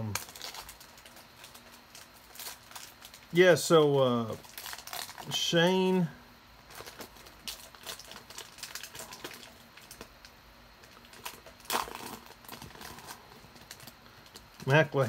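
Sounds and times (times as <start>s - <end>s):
plastic wrapping crinkling: 0.0s - 3.5s, 4.3s - 5.5s, 6.6s - 15.0s.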